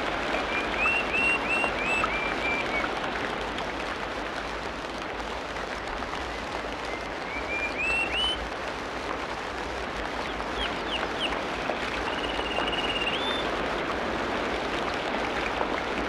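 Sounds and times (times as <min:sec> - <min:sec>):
rain-like hiss: 0:00.0 - 0:16.0.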